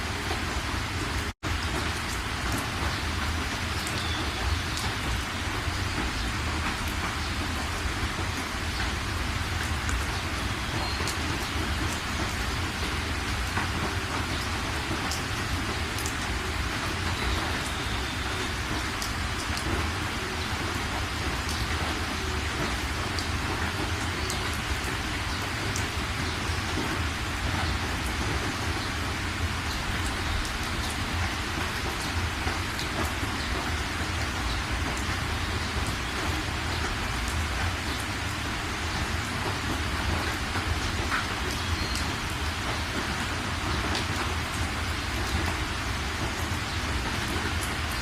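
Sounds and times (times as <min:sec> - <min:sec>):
steady rain falling: 0:00.0 - 0:48.0
raindrop ticks: 0:01.5 - 0:09.0, 0:09.6 - 0:48.0.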